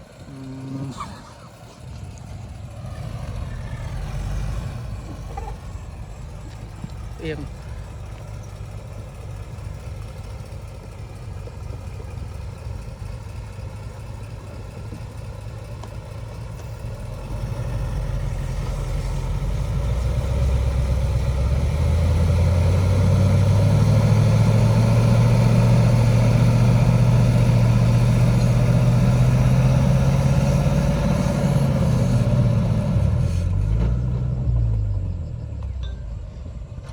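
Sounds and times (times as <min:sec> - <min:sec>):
heavy diesel engine revving: 0:00.0 - 0:35.7.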